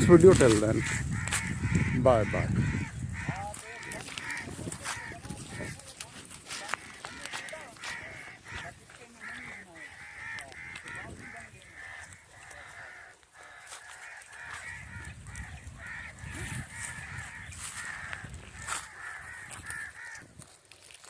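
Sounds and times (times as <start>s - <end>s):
crows cawing: 0.0s - 20.5s.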